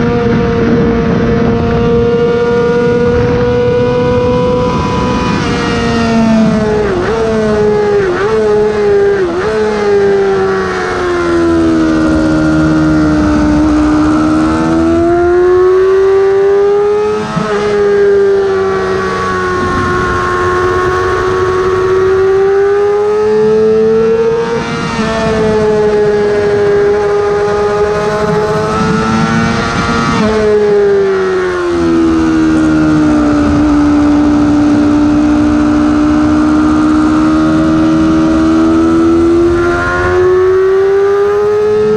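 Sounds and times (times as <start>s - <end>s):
motorcycle engine at racing revs: 0.0s - 41.9s.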